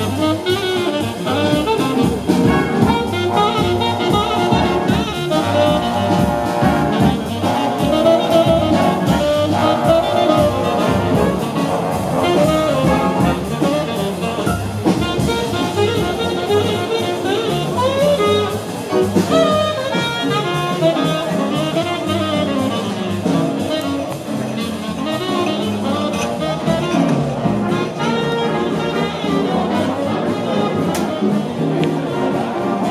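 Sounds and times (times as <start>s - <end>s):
drums keeping steady beat: 0.0s - 32.9s
jazz big band playing: 0.0s - 32.9s.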